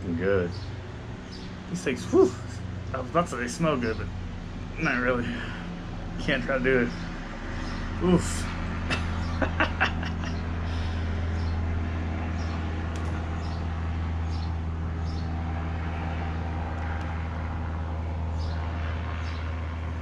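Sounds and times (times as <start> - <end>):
low engine hum: 0.0 - 20.0
traffic passing: 0.0 - 20.0.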